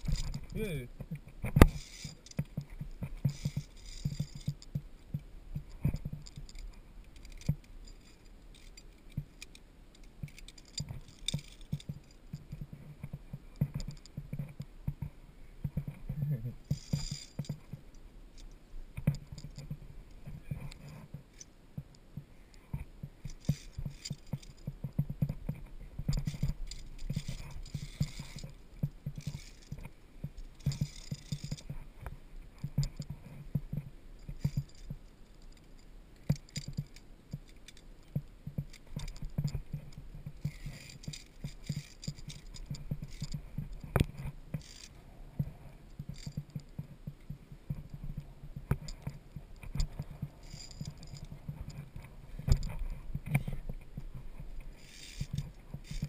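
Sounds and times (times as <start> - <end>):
carabiners clinking on steel cable: 0.0 - 15.0, 15.7 - 21.6, 22.5 - 56.0.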